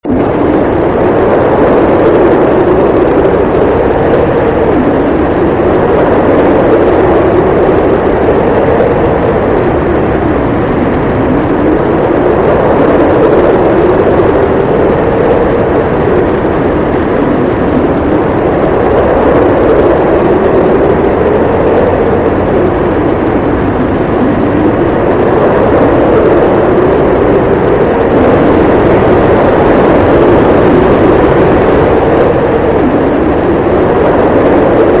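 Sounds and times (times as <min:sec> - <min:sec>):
blizzard wind howling: 0:00.0 - 0:35.0.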